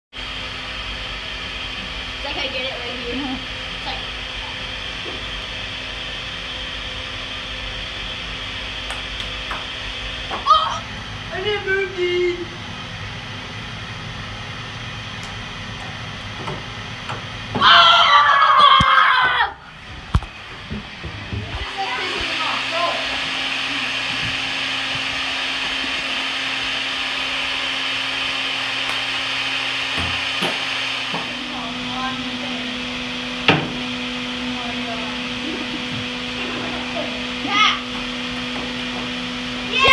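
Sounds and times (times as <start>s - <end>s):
hair dryer running: 0.1s - 39.9s.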